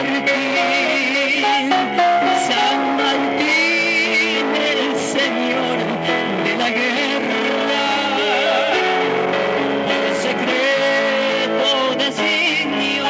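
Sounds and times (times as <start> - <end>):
electronic keyboard playing a hymn: 0.0 - 13.0
voices singing: 0.0 - 13.0.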